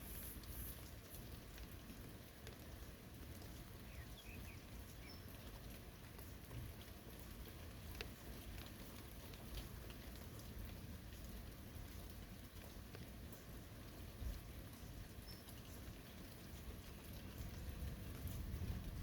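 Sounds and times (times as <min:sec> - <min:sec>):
light rain falling: 0:00.0 - 0:19.0
raindrops pattering: 0:00.0 - 0:19.0.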